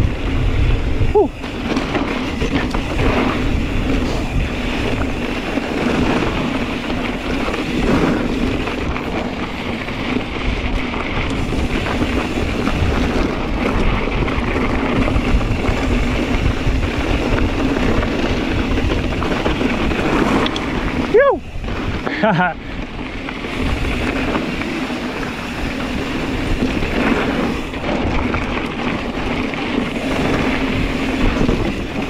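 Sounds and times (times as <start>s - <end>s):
bike rolling on dirt trail: 0.0s - 32.0s
wind rush on microphone: 0.0s - 32.0s.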